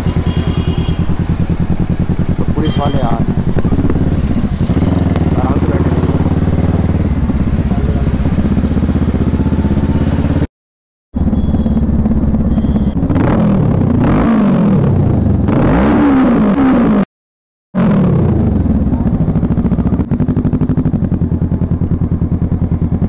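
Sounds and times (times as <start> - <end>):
motorcycle engine revving: 0.0 - 10.5, 11.2 - 17.1, 17.8 - 23.0.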